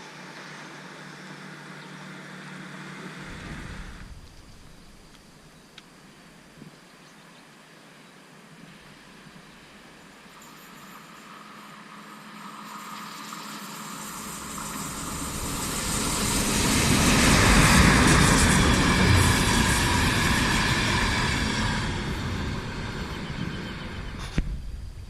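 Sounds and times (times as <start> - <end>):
electric train passing: 0.0 - 5.5, 10.2 - 25.0.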